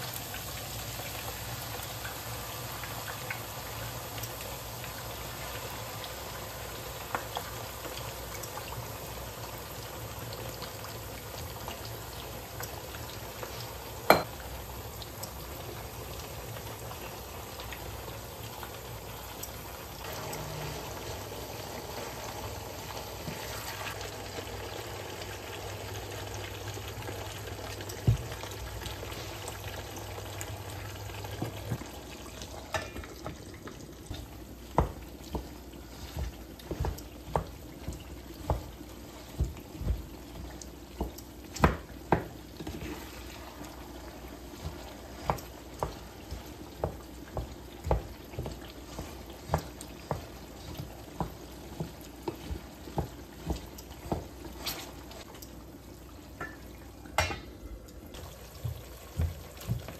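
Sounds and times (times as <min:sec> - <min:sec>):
potatoes frying in oil: 0:00.0 - 0:59.9.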